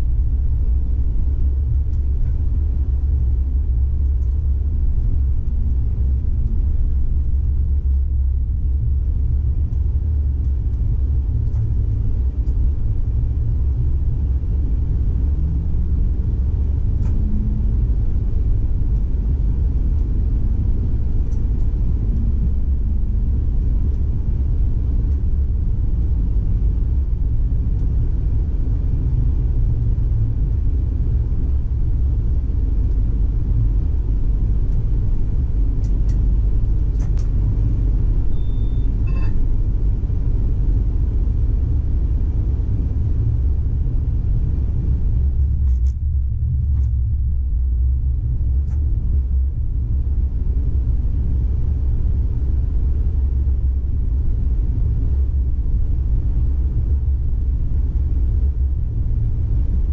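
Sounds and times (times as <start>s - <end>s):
faint hum: 0.0s - 59.9s
tram rumble: 0.0s - 59.9s.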